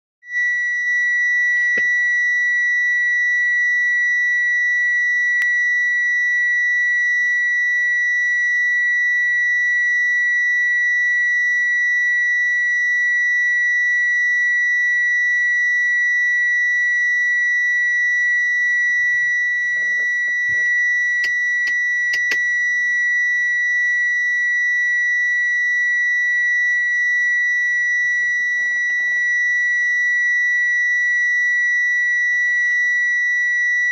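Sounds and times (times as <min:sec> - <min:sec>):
continuous high-pitched beep: 0:00.3 - 0:33.9.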